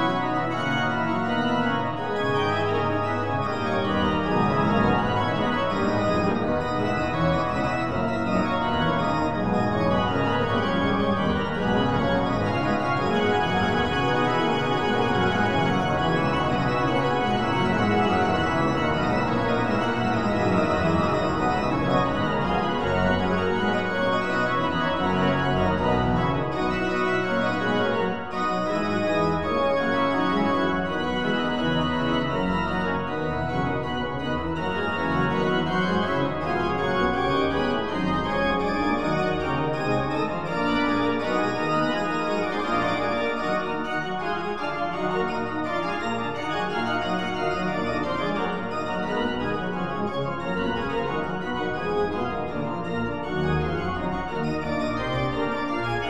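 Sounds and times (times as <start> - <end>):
organ chords: 0.0 - 56.0.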